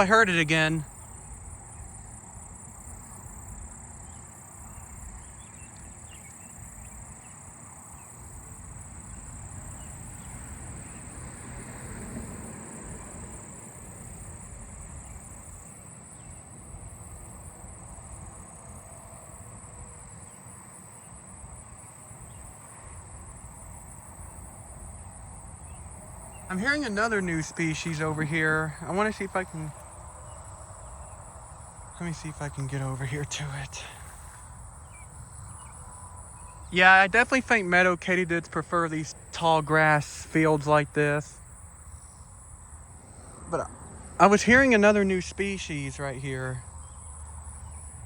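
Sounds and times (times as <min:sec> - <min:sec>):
crickets and katydids trilling: 0:00.0 - 0:48.0.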